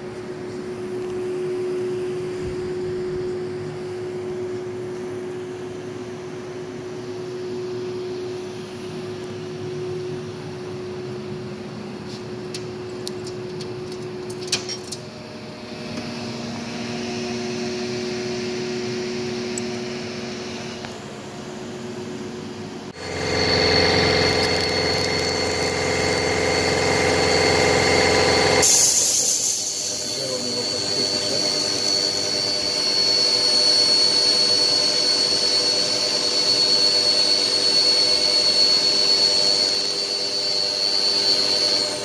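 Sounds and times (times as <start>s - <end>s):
machining center humming: 0.0s - 42.0s.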